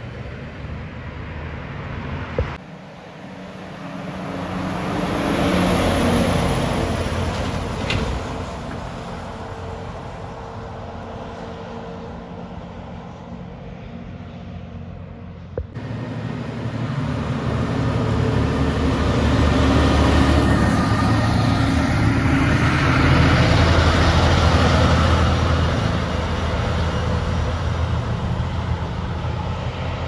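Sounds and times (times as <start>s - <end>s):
truck passing by: 0.0s - 30.0s.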